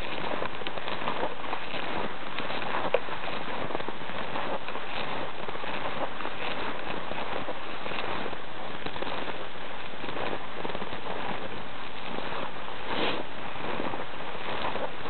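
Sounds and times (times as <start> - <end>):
footsteps in deep snow: 0.0 - 15.0.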